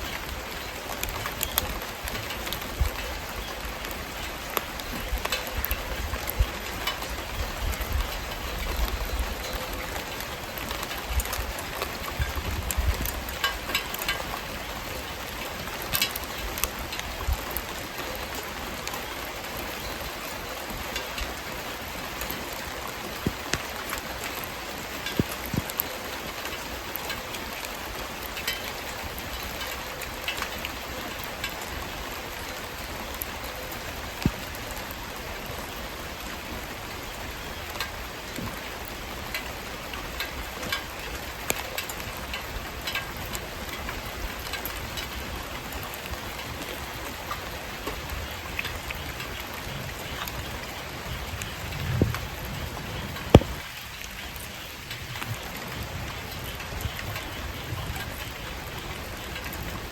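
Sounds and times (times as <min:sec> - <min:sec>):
wood fire crackling and hissing: 0:00.0 - 0:59.9
fire popping and snapping: 0:00.1 - 0:18.4, 0:22.2 - 0:35.6, 0:37.6 - 0:50.6, 0:51.2 - 0:59.9.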